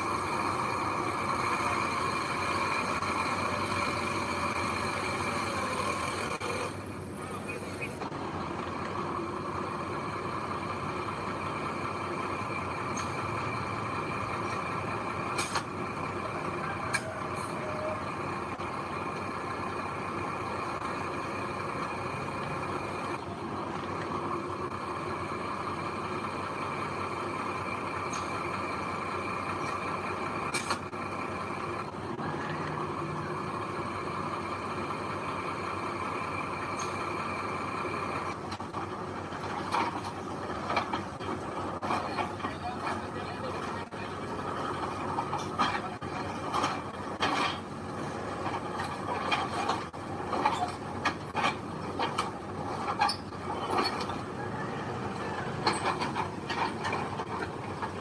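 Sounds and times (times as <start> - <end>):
diesel machinery engine drone: 0.0 - 58.0.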